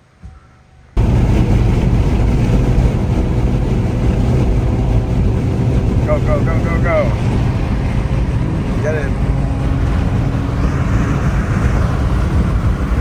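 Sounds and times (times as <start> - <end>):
car engine running hard: 1.0 - 13.0.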